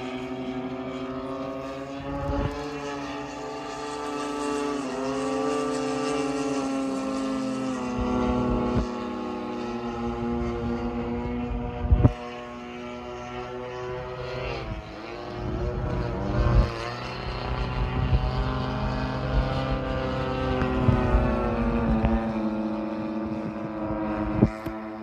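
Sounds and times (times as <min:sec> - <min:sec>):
model plane engines droning: 0:00.0 - 0:25.0
wind buffeting microphone: 0:01.6 - 0:04.6, 0:05.2 - 0:12.7, 0:13.8 - 0:25.0.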